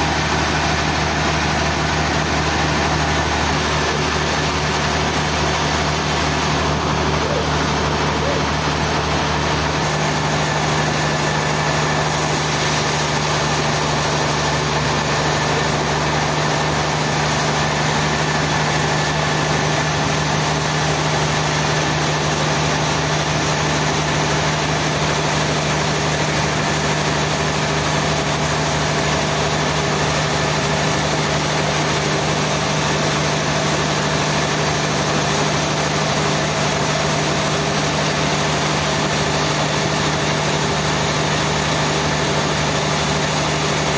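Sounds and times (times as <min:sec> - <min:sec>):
sawmill engine humming: 0:00.0 - 0:43.9.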